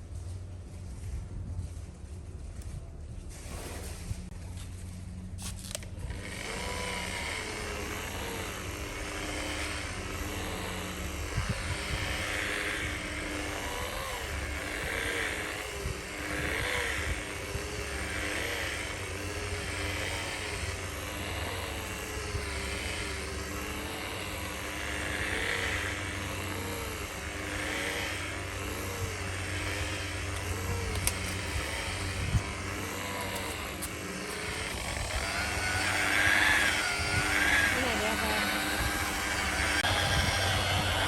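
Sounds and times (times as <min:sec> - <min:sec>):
small motor whining: 0:02.6 - 0:41.0.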